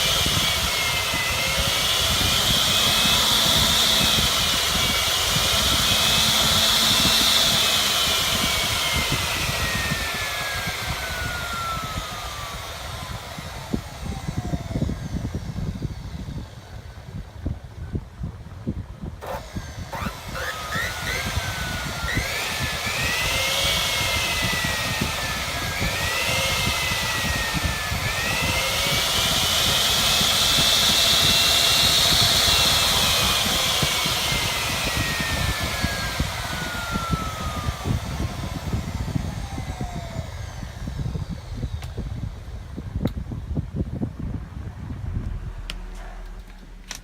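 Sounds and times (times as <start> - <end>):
cutting saw whine: 0.0 - 18.1, 19.1 - 44.0, 44.9 - 47.0.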